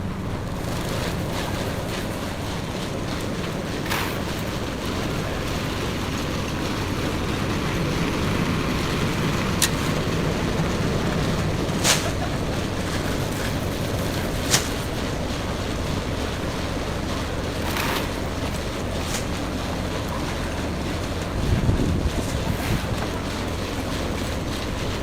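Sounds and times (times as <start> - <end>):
construction machinery humming: 0.0 - 25.0.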